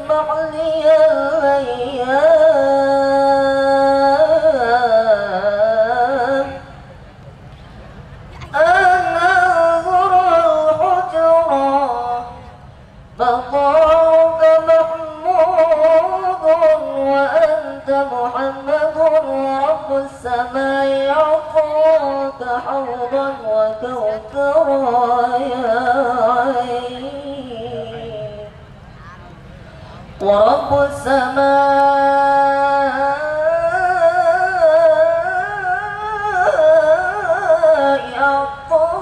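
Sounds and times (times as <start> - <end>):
man singing into a microphone: 0.0 - 6.8, 8.4 - 12.6, 13.2 - 28.6, 30.2 - 39.0.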